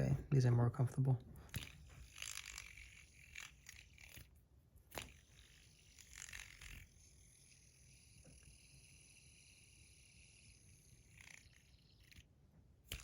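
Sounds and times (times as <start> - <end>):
fidget spinner scrapes: 1.5 - 12.3.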